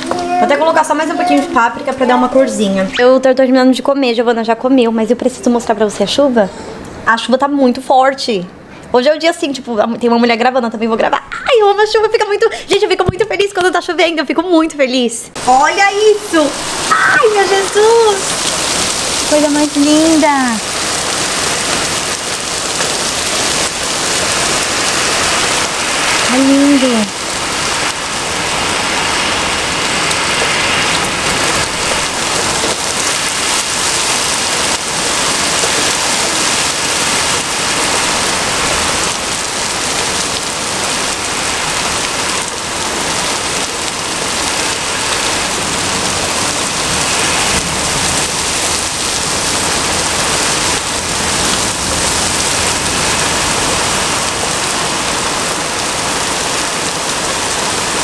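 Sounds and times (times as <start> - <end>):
heavy rain: 0.0 - 14.7, 15.3 - 58.0.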